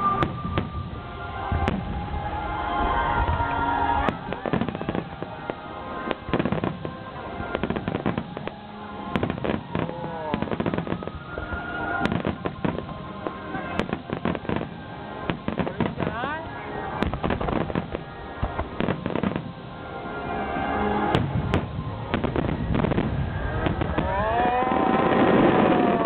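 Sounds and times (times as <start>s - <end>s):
music playing: 0.0s - 23.8s
fireworks crackling: 0.0s - 26.0s.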